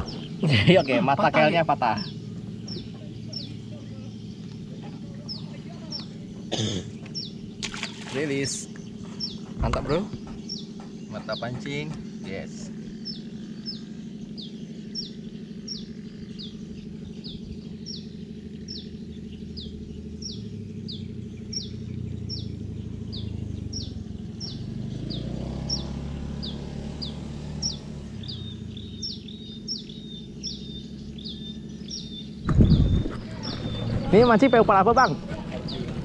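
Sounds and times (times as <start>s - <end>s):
bird chirping: 0.0s - 36.0s
low motor hum: 0.0s - 36.0s.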